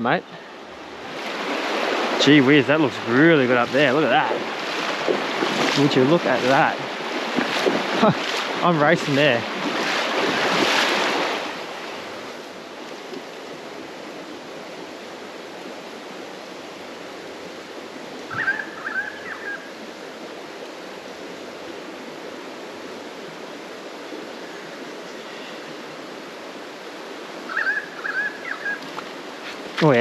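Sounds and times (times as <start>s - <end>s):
flowing creek: 0.0s - 30.0s.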